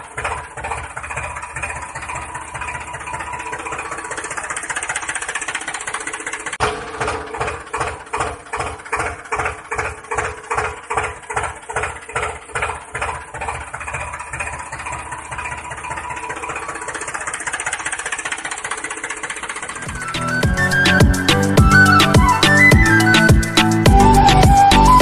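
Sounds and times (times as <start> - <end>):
tractor engine chugging: 0.0 - 25.0.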